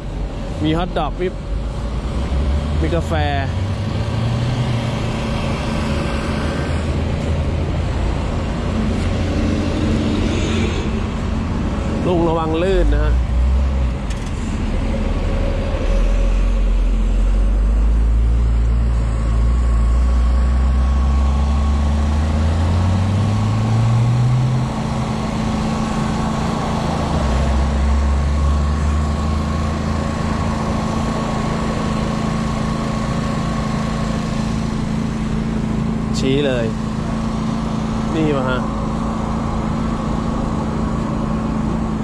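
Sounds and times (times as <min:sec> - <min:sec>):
motor engine revving: 0:01.8 - 0:42.0.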